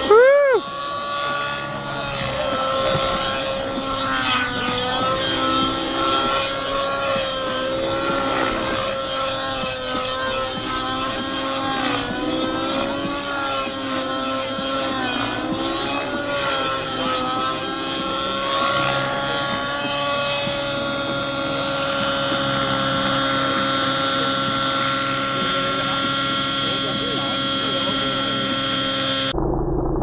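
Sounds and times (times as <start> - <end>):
model helicopter engine and rotor: 0.0 - 29.4.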